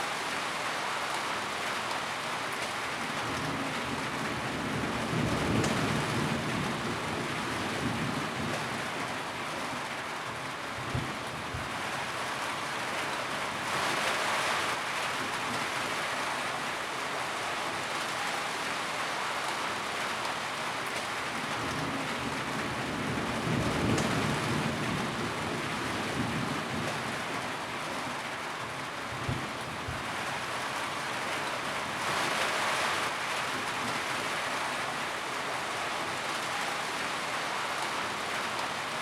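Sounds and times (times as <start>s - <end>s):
rain drumming on a tin roof: 0.0s - 39.0s.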